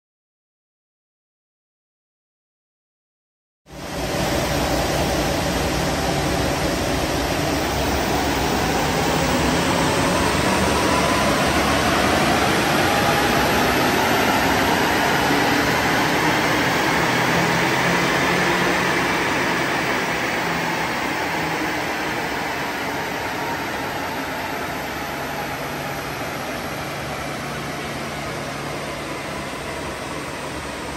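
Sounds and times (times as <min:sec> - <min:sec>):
diesel engine on dynamometer: 0:03.7 - 0:30.9
large cooling fan rushing: 0:03.7 - 0:30.9.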